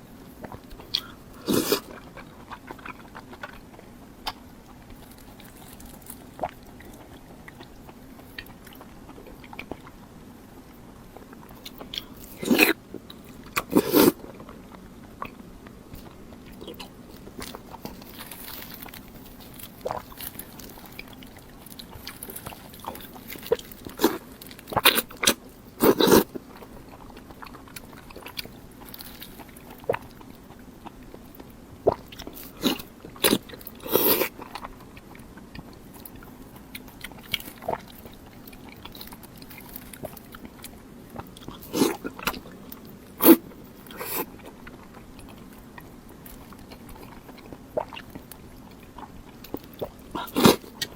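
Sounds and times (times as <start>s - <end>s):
crunchy chewing: 0.0s - 50.9s.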